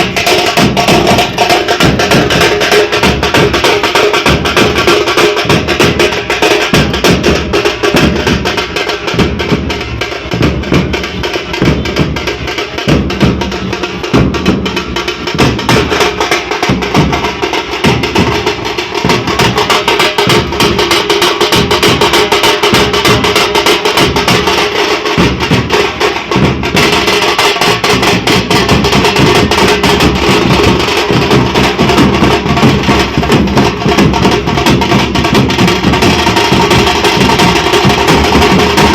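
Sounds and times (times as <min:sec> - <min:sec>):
drum ensemble playing fast rhythms: 0:00.0 - 0:38.9.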